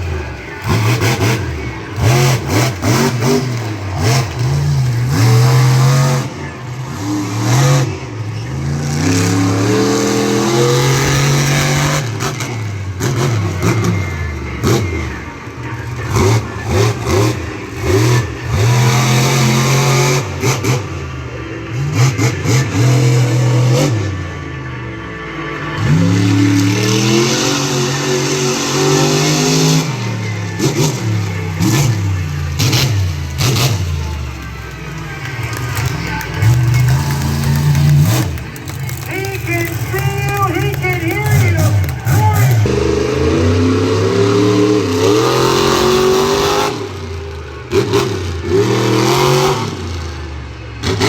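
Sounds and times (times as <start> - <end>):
monster truck engine revving: 0.0 - 51.0.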